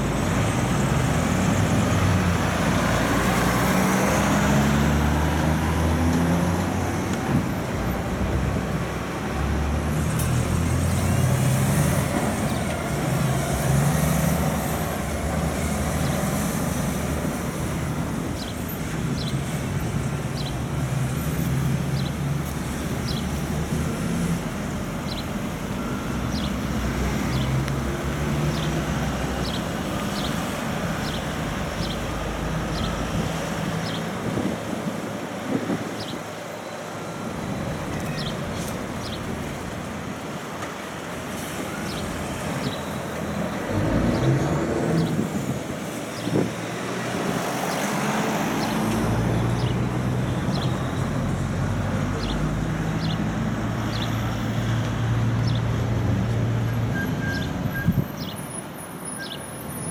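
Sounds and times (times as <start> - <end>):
trucks and cars passing: 0.0 - 59.9.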